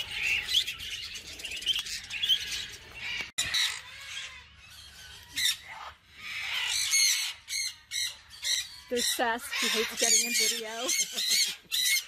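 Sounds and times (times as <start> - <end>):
parakeets chirping and chattering: 0.0 - 12.0.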